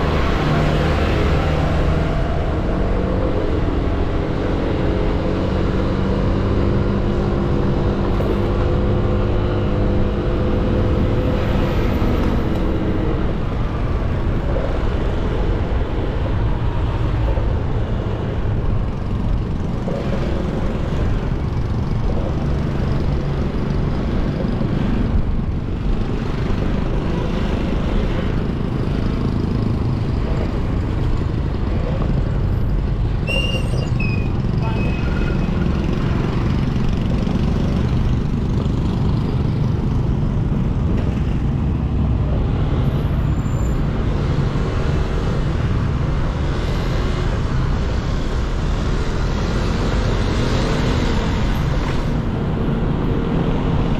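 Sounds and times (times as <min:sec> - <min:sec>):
wind and road noise: 0:00.0 - 0:53.9.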